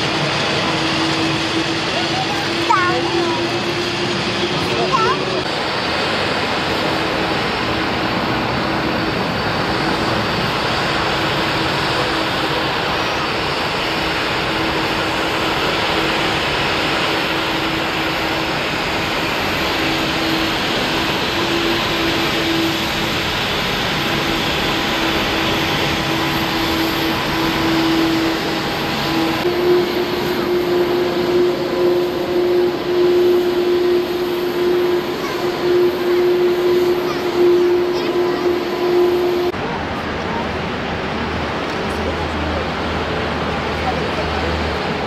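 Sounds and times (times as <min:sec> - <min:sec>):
jet engines roaring: 0:00.0 - 0:45.0.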